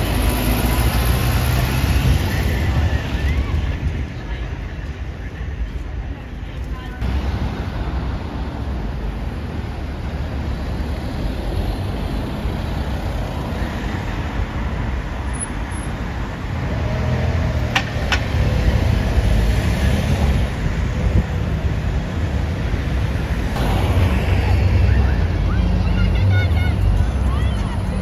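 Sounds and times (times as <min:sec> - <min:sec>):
road traffic engine rumble: 0:00.0 - 0:28.0.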